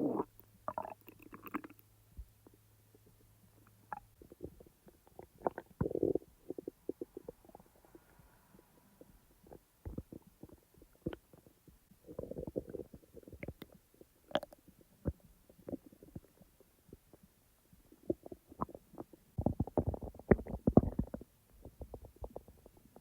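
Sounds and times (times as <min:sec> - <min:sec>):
stomach rumbling and gurgling: 0:00.0 - 0:23.0.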